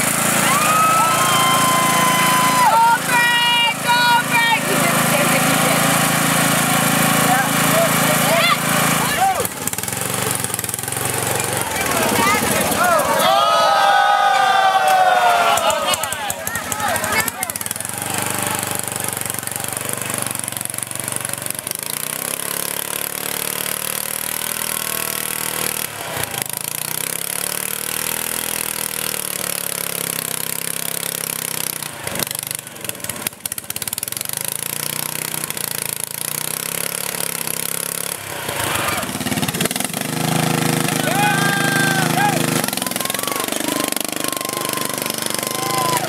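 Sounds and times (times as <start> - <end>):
lawn mower engine labouring: 0.0 - 46.0.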